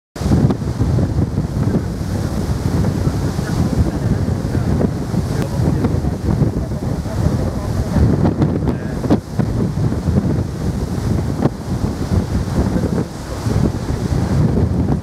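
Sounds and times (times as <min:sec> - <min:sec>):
wind buffeting microphone: 0:00.2 - 0:15.0.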